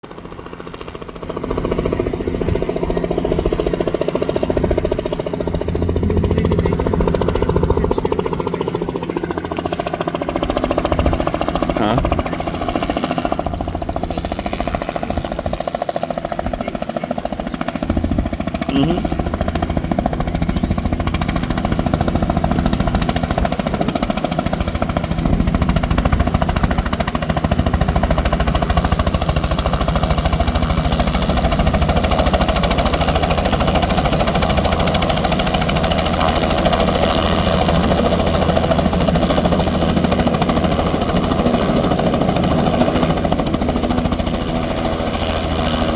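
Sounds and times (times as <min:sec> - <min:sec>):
helicopter rotor chop and engine: 0:00.0 - 0:45.9.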